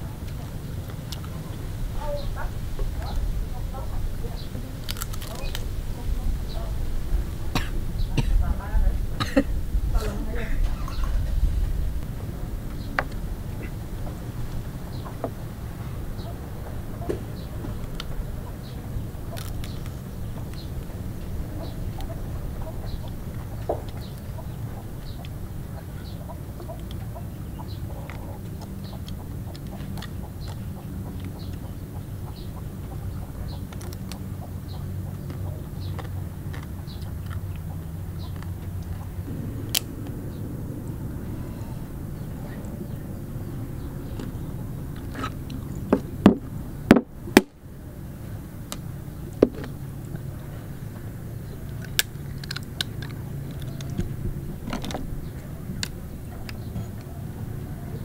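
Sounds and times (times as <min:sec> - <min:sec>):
chickens clucking: 0:00.0 - 0:47.0
steady low rumble: 0:00.0 - 0:58.0.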